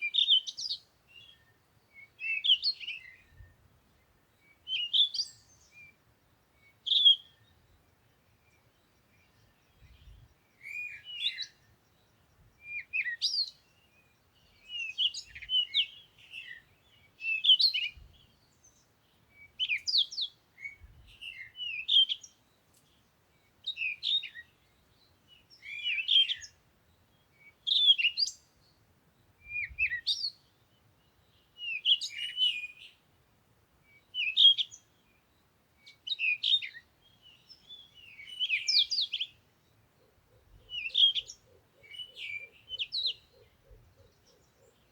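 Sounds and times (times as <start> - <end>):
bird chirping: 0.0 - 33.1, 33.8 - 44.9.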